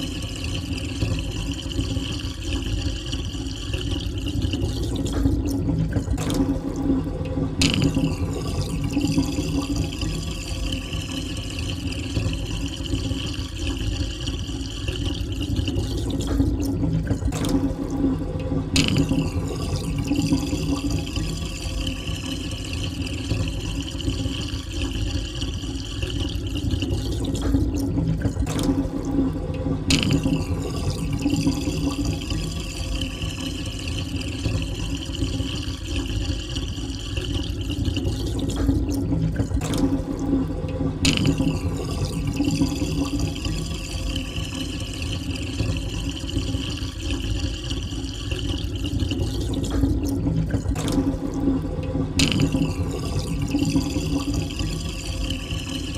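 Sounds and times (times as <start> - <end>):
water draining down a sink: 0.0 - 55.9.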